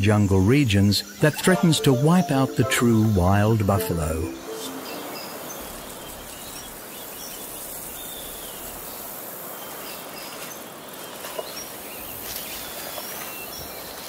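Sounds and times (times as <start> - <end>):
background hiss: 1.2 - 14.0.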